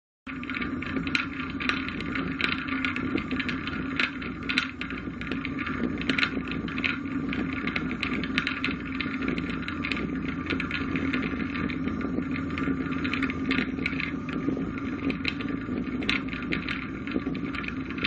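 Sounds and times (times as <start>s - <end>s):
irregular crackles: 0.3s - 18.0s.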